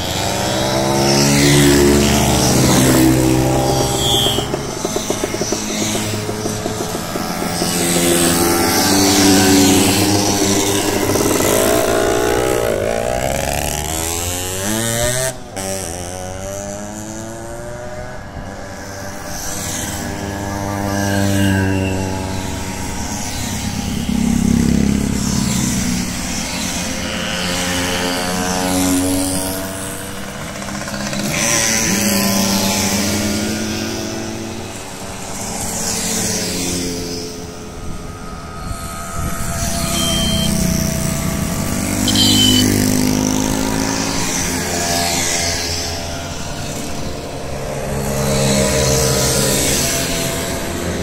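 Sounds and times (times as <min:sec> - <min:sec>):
moped engines buzzing past: 0:00.0 - 0:51.0.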